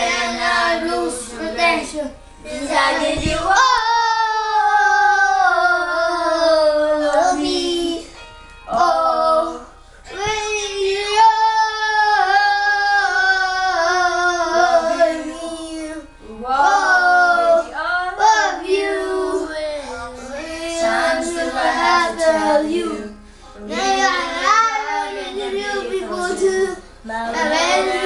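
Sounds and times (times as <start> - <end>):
children singing: 0.0 - 8.0, 8.7 - 28.0.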